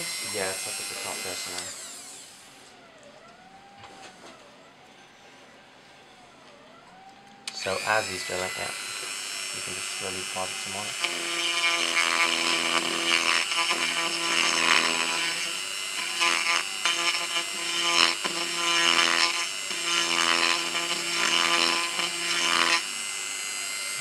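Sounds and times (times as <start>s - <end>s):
rotary tool grinding plastic: 0.0s - 3.7s, 7.5s - 24.0s.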